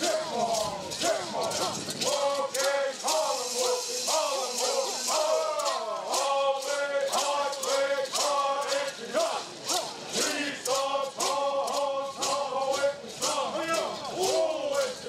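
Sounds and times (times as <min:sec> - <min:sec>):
gourd rattles shaken: 0:00.0 - 0:15.0
men singing: 0:00.0 - 0:15.0.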